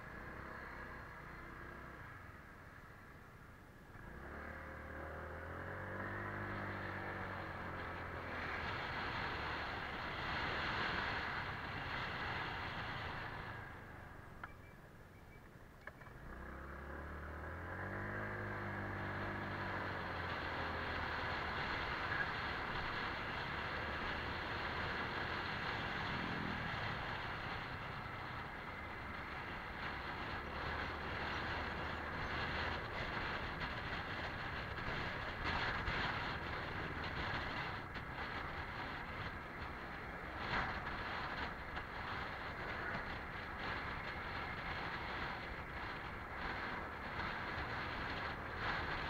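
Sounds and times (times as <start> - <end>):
scooter engine: 0.0 - 15.0, 15.8 - 49.0
wind and road noise: 0.0 - 49.0.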